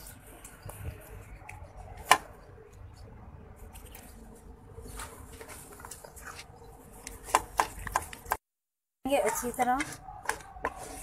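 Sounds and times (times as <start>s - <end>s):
spoon stirring wet dough: 0.0s - 8.4s, 9.1s - 11.0s.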